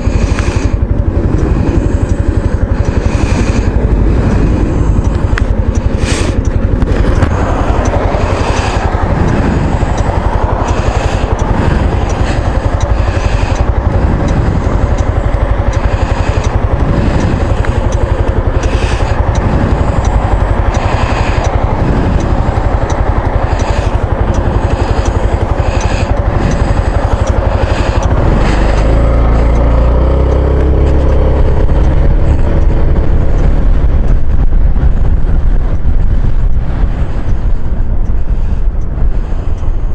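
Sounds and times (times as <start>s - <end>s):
road rumble: 0.0s - 39.9s
scooter engine: 0.0s - 39.9s
wind buffeting microphone: 0.0s - 39.9s.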